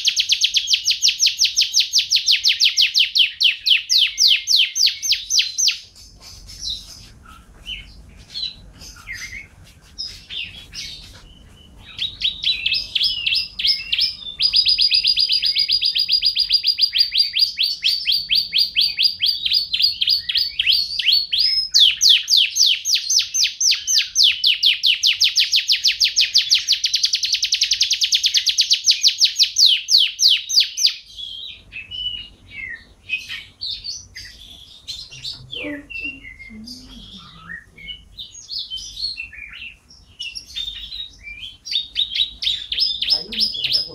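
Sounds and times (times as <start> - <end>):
canary chirping and trilling: 0.0 - 43.9.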